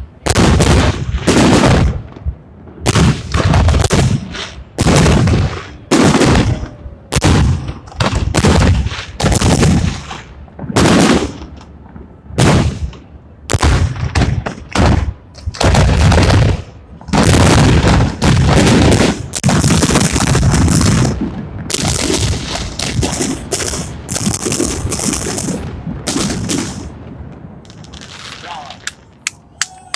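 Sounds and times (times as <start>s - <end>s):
fireworks bangs with rumbling tails: 0.0s - 29.2s
fireworks crackle: 2.9s - 29.3s.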